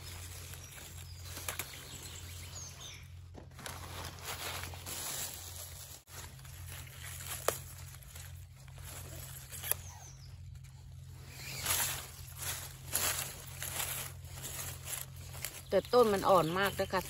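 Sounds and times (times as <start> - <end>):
leaves rustling: 0.0 - 17.0.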